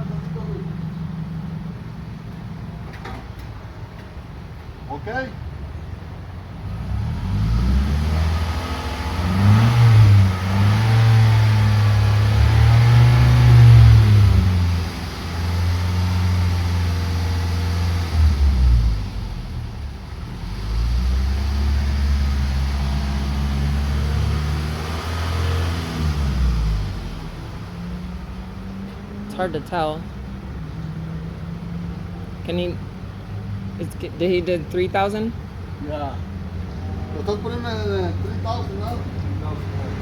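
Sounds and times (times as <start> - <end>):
car engine revving: 6.4 - 40.0.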